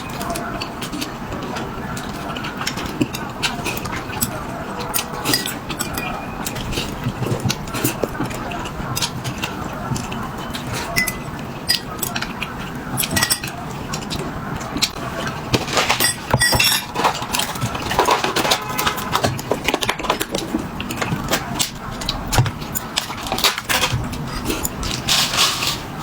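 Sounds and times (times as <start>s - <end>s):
utensils clinking against dishes: 0.0s - 26.0s.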